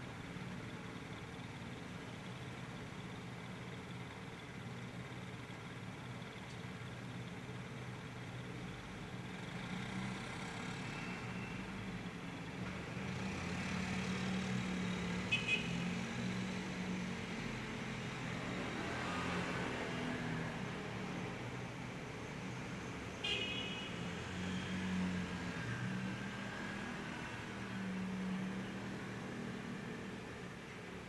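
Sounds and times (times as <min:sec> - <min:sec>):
road traffic hum: 0:00.0 - 0:31.0.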